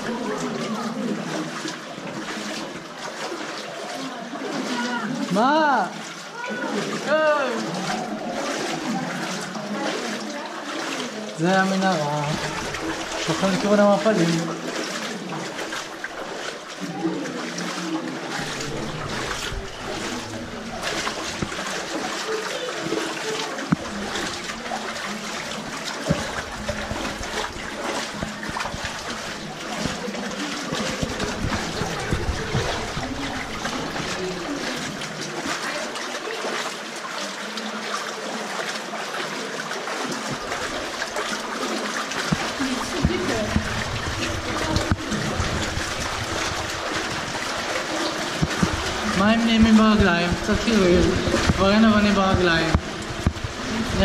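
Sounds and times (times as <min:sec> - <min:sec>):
water splashing from wading feet: 0:00.0 - 0:54.0.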